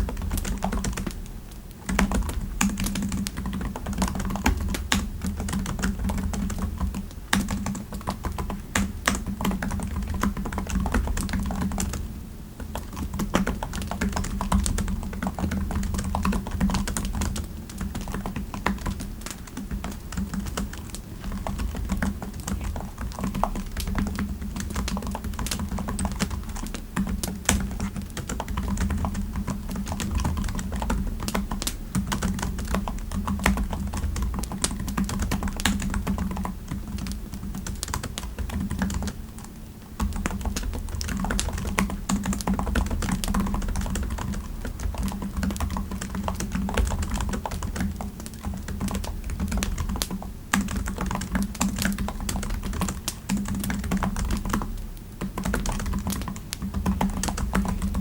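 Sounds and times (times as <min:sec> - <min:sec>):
typing on computer keyboard: 0:00.0 - 0:58.0.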